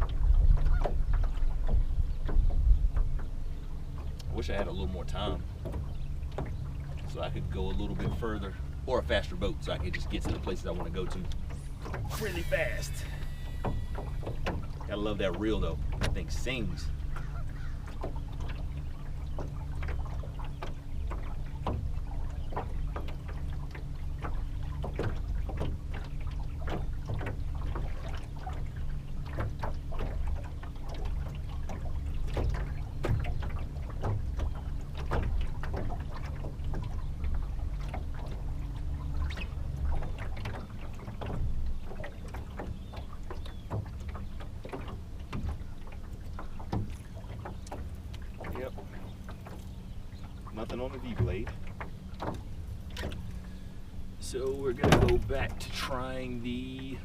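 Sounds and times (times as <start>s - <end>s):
boat motor humming: 0.0s - 57.0s
water slapping against hull: 0.0s - 57.0s.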